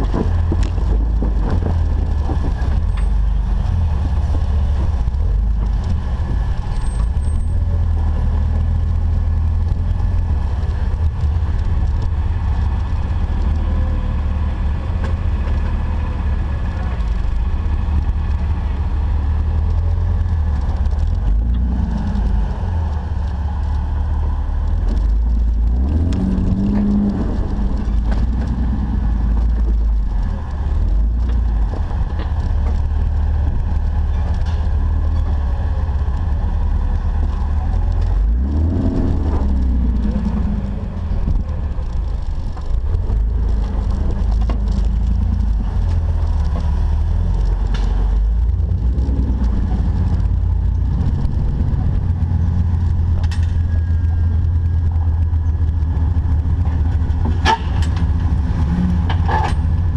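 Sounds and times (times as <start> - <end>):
engine running at low revs: 0.0 - 59.9.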